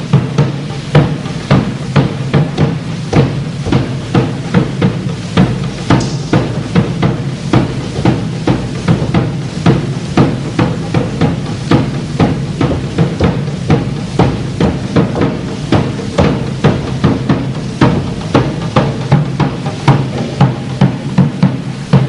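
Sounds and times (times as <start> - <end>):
rhythmic heavy thumps: 0.0 - 22.0
steady low hum: 0.0 - 22.0.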